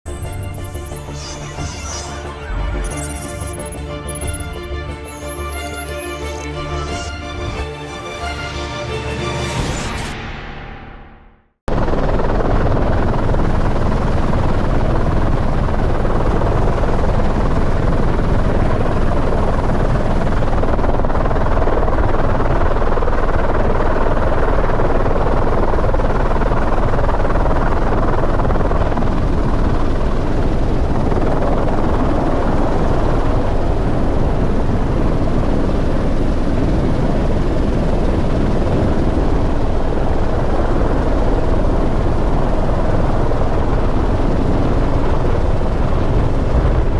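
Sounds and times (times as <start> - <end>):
helicopter rotor and engine: 0.1 - 10.1, 11.7 - 46.9.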